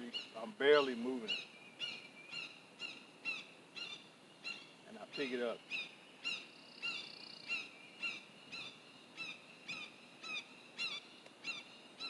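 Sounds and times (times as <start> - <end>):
hawk calling: 0.0 - 11.7.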